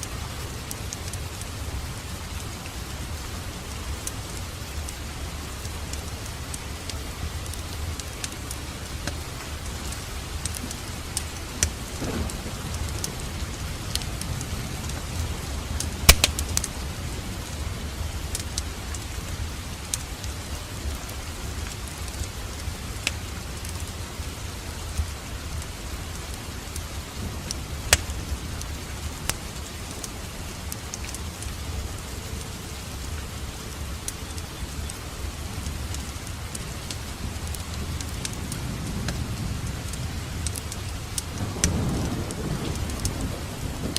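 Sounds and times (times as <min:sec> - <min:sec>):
fire crackling: 0:00.0 - 0:43.9
fire popping: 0:03.7 - 0:33.3, 0:34.0 - 0:43.9.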